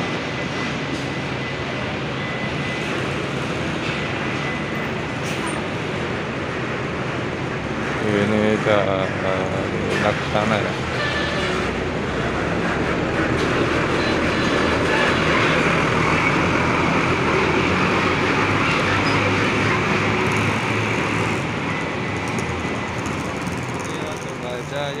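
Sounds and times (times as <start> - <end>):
bus engine and tyres rumbling: 0.0 - 25.0.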